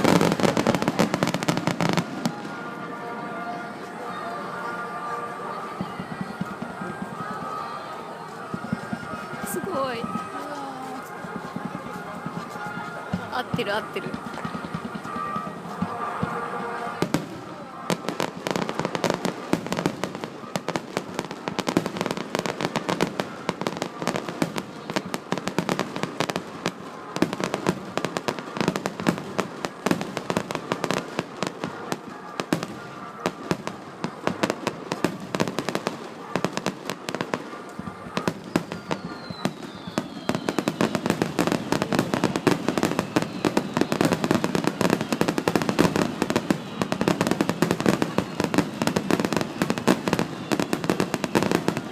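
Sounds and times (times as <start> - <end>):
fireworks bangs and crackles: 0.0 - 51.9
falling firework whistle: 3.6 - 51.9.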